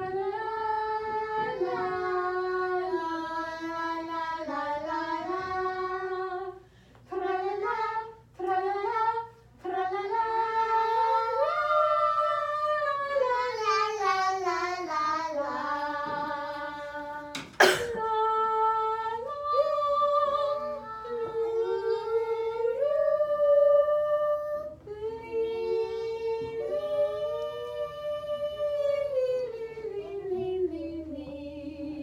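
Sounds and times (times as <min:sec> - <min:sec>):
voices humming a slow tune: 0:00.0 - 0:32.0.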